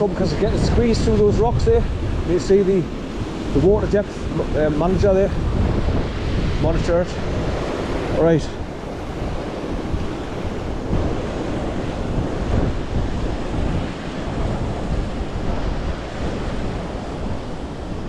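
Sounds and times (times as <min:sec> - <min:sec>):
waterfall rushing: 0:00.0 - 0:18.0
wind buffeting microphone: 0:00.0 - 0:18.0.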